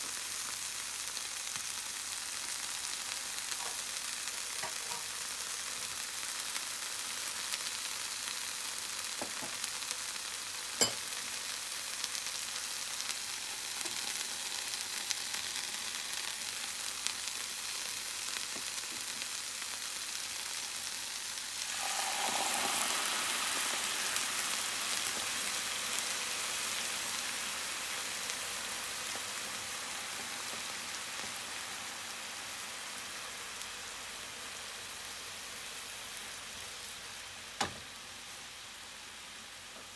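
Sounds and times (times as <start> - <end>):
onions sizzling in a pan: 0.0 - 39.9
sauce sizzling in hot pan: 0.0 - 39.9.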